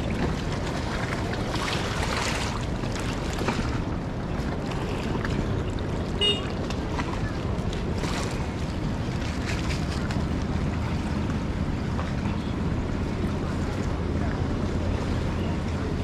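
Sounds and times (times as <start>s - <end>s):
floodwater rushing roar: 0.0s - 16.0s.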